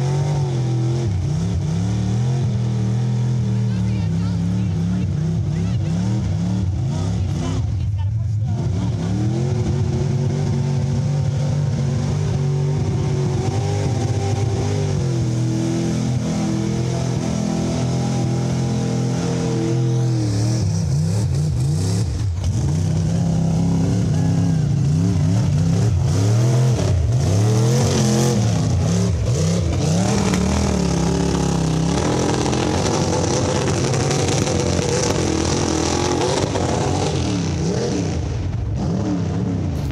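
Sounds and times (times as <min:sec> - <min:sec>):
truck engine revving hard: 0:00.0 - 0:39.9.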